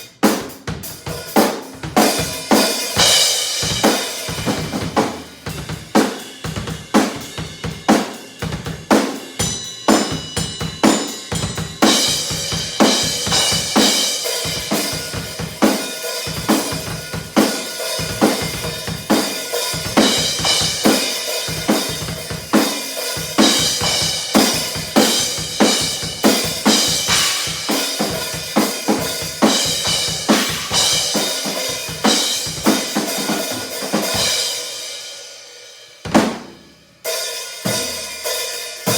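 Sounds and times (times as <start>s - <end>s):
cymbals: 0.0s - 36.4s, 37.0s - 38.9s.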